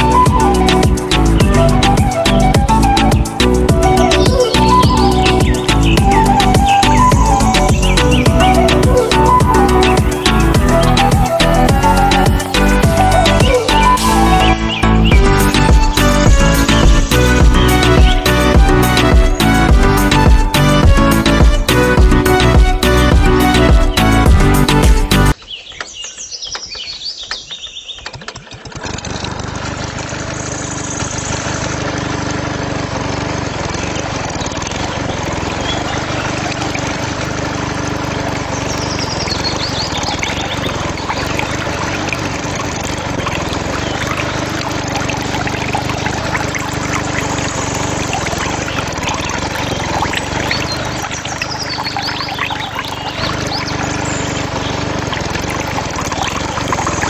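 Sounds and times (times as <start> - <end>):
small diesel engine running: 0.0 - 25.4, 28.0 - 57.0
water gushing and splashing: 0.0 - 25.4, 28.1 - 57.0.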